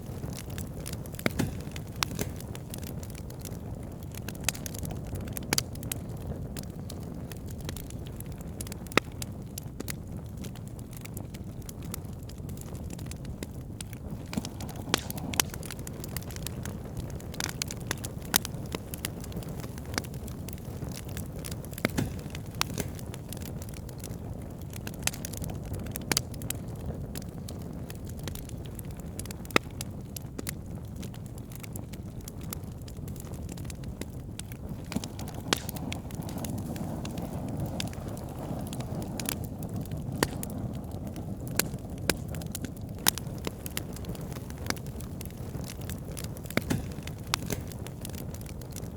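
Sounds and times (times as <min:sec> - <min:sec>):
campfire flames rushing: 0:00.0 - 0:48.9
wood crackling and popping: 0:00.0 - 0:48.9.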